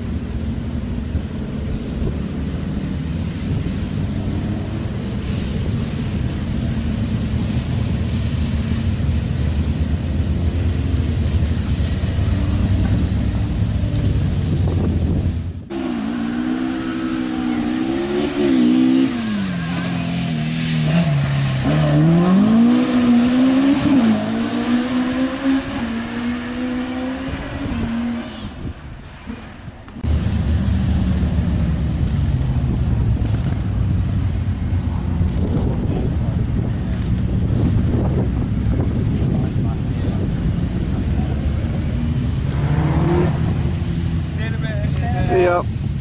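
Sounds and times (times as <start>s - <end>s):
low engine rumble: 0.0s - 21.7s, 28.4s - 46.0s
rally car engine revving: 1.2s - 28.7s, 34.9s - 45.5s.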